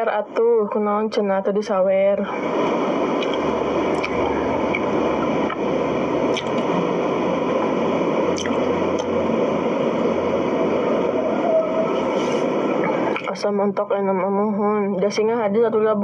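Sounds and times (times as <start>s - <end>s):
steady hissing noise: 0.0s - 16.0s.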